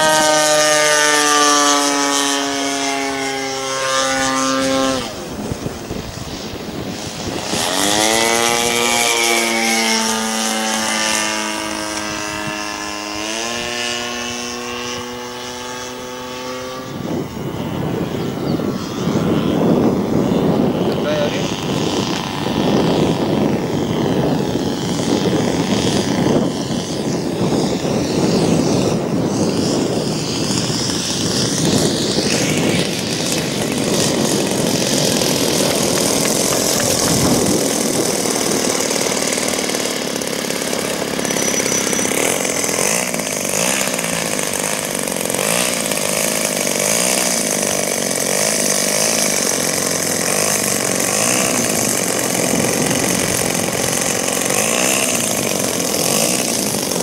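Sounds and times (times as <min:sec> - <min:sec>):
model plane engine idling: 0:00.0 - 0:57.0
model plane engine passing overhead: 0:00.0 - 0:57.0.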